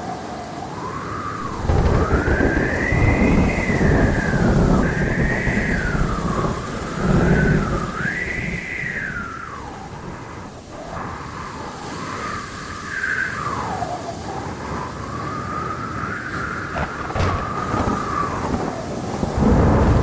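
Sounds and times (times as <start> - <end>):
storm wind howling: 0.0 - 20.0
thunder rumbling: 1.4 - 13.0, 14.4 - 20.0.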